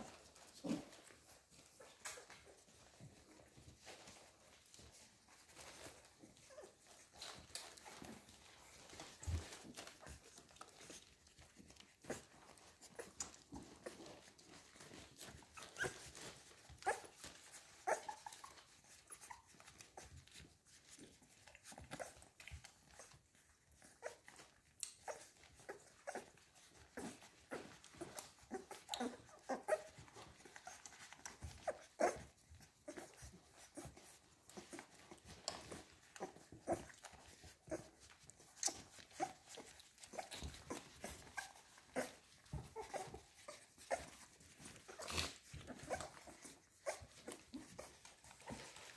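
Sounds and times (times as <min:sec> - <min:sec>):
puppies squeaking and whimpering: 0:00.0 - 0:48.9
small clicking and smacking sounds: 0:00.0 - 0:48.9.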